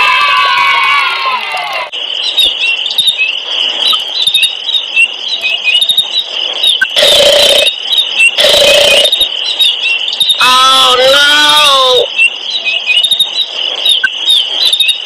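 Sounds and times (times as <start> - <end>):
high-pitched chirping: 2.1 - 15.0.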